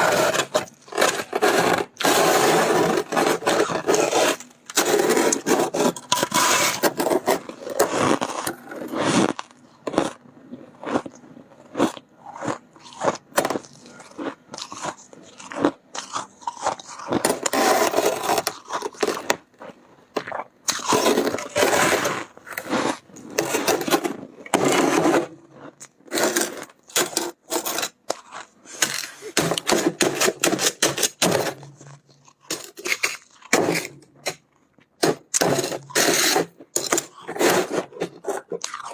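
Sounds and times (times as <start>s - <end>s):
freezer frost crunching and scraping: 0.0s - 38.9s.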